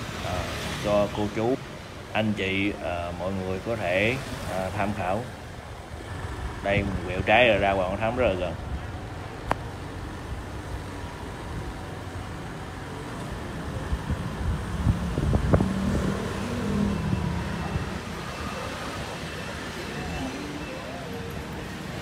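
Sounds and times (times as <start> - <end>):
traffic rumble: 0.0 - 22.0
vehicle engine hum: 0.0 - 22.0.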